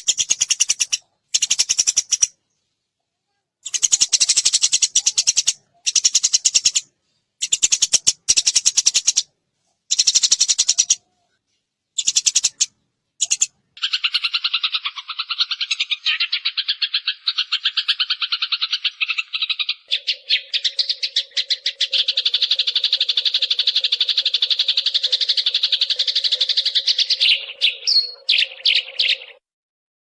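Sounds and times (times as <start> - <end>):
sparrow chirping: 0.0 - 2.4, 3.6 - 9.3, 9.9 - 11.1, 11.9 - 29.4.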